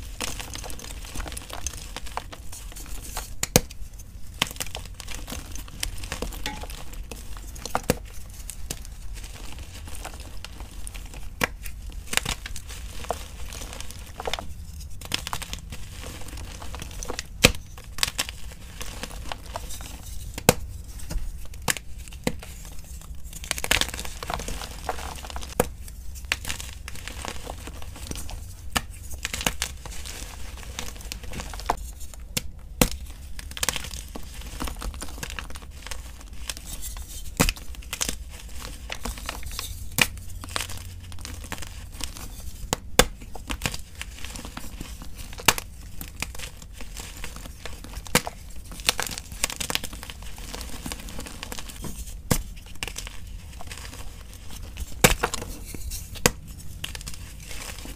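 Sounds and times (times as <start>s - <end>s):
chalk chunks snapping: 0.2s - 57.9s.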